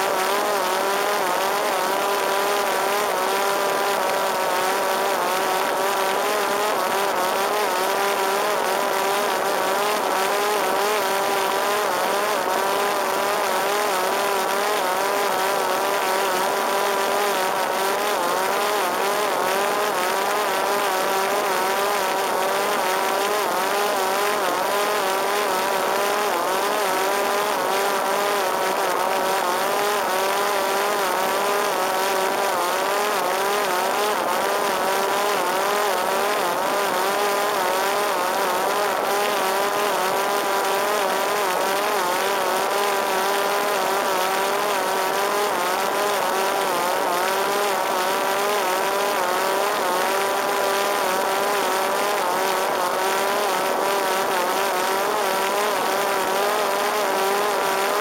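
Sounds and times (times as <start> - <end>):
drone motor whine: 0.0 - 58.0.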